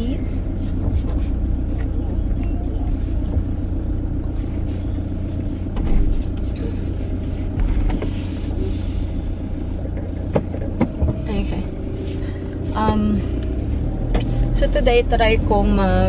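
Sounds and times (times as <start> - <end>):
car engine rumble: 0.0 - 16.0
tyres on road: 0.0 - 16.0.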